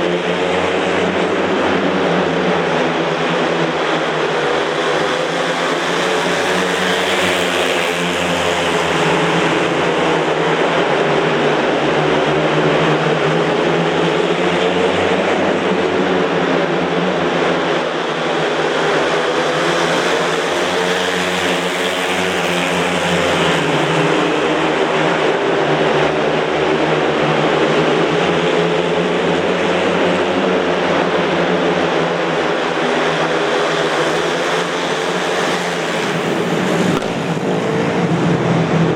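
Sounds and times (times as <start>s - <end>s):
motorcycles racing: 0.0s - 38.9s.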